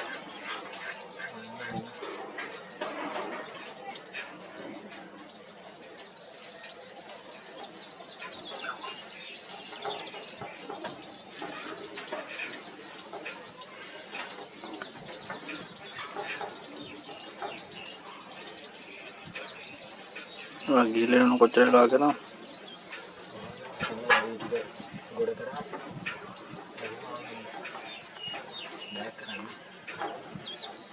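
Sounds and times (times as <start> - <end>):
birds chirping and calling: 0.0 - 30.9.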